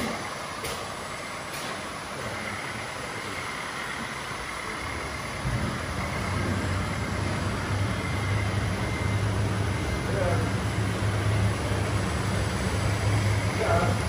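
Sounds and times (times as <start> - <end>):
faint high whine: 0.0 - 14.0
model truck engine hum: 0.1 - 14.0.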